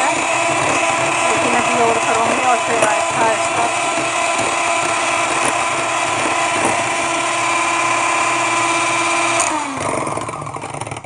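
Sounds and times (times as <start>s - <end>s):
electric hand mixer whining: 0.0s - 11.0s.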